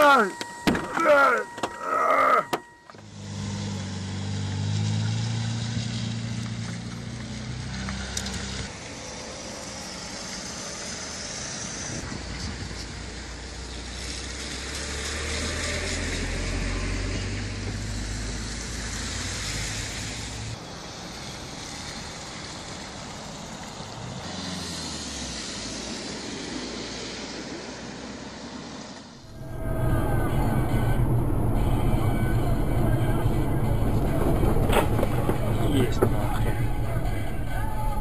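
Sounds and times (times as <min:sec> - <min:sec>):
road noise: 0:00.0 - 0:38.0
vehicle engine hum and rumble: 0:00.0 - 0:38.0.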